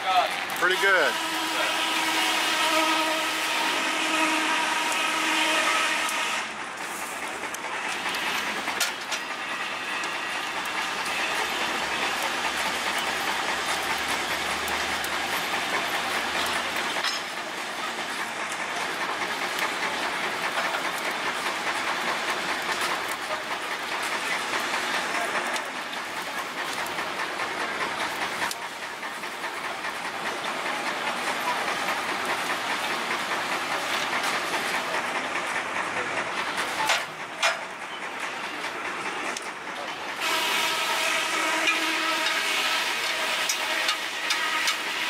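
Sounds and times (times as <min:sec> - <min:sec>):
forge fire hissing and crackling: 0:00.0 - 0:45.0.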